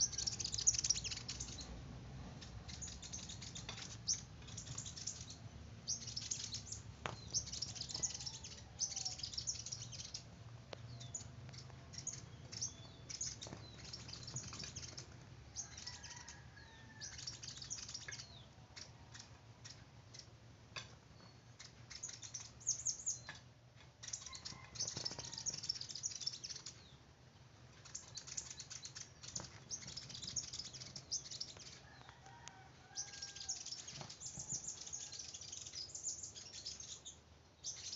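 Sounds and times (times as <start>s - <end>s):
small bird twittering: 0.0s - 1.7s, 2.4s - 20.4s, 21.2s - 23.4s, 24.0s - 27.0s, 27.8s - 32.0s, 32.9s - 37.9s.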